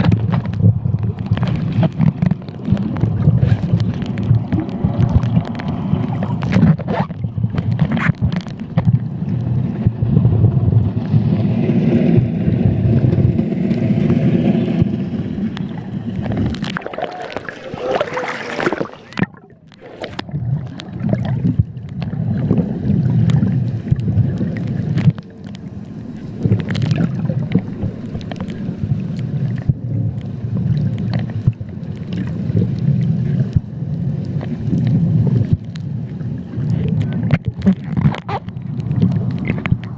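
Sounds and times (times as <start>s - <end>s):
bubbling: 0.0s - 39.9s
muffled underwater rumble: 0.0s - 39.9s.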